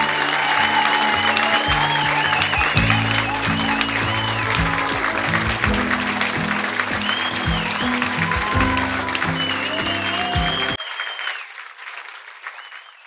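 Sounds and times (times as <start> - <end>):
music with heavy beat: 0.0 - 10.8
audience whistling: 0.0 - 11.5
audience applauding: 0.0 - 13.0.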